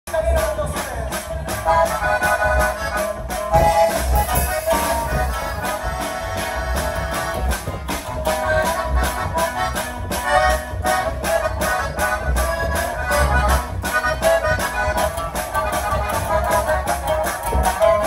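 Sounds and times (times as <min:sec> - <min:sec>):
accordion: 0:00.1 - 0:18.0
shaker and bass beat: 0:00.1 - 0:18.0.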